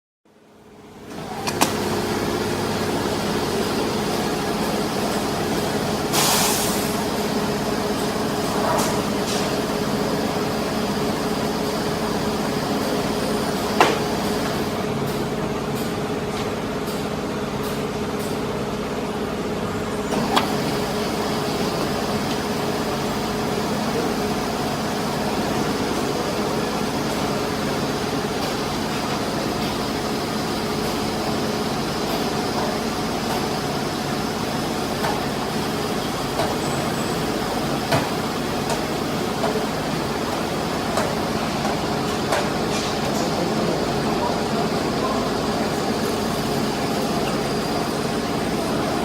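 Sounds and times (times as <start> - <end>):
lathe machine hum: 1.2 - 49.0.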